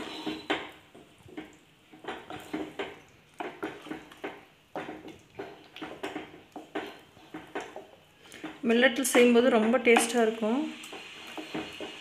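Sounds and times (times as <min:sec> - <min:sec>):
wooden spatula scraping pot: 0:00.0 - 0:12.0.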